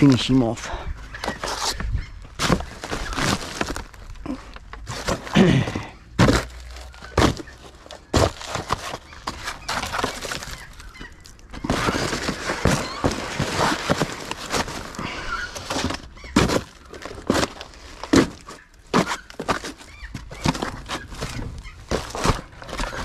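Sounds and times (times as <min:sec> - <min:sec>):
cardboard boxes being crushed: 0:01.1 - 0:23.0.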